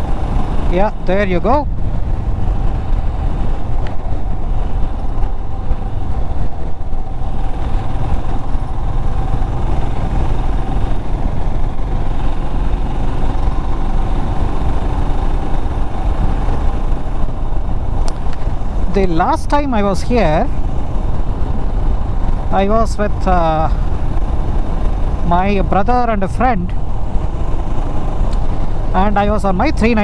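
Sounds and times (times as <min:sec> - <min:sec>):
motorcycle engine running: 0:00.0 - 0:30.0
wind rumble on microphone: 0:00.0 - 0:30.0.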